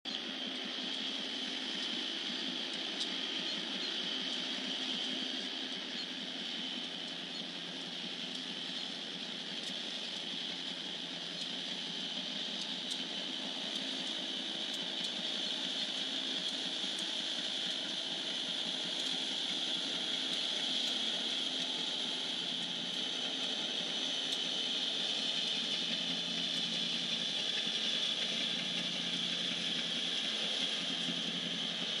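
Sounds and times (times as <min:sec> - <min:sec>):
diesel locomotives passing: 0:00.2 - 0:32.0.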